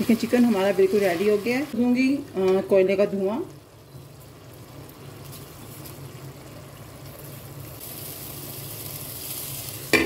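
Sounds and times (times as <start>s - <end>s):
charcoal sizzling and hissing: 0.0s - 2.2s, 3.7s - 10.0s.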